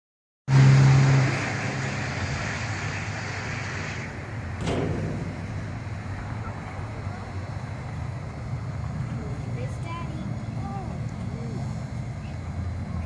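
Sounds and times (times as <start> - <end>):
car engine droning: 0.5 - 13.0.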